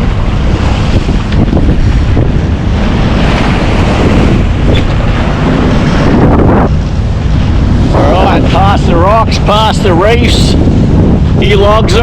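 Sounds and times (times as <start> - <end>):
sea waves rushing: 0.0 - 12.0
wind buffeting microphone: 0.0 - 12.0.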